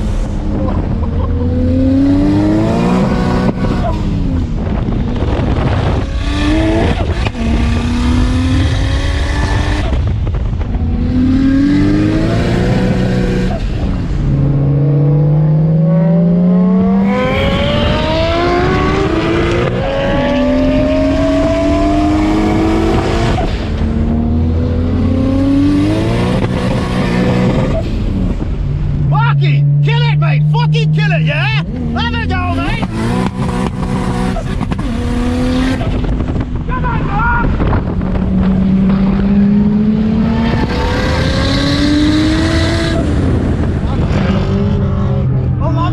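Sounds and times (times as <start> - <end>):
car engine revving through gears: 0.0 - 36.7, 37.6 - 45.6.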